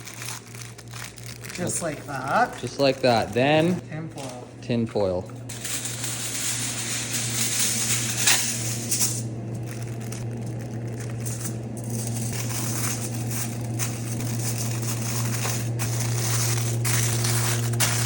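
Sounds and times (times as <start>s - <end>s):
aluminium foil crinkling: 0.0s - 4.4s, 5.5s - 18.0s
steady low hum: 0.0s - 18.0s.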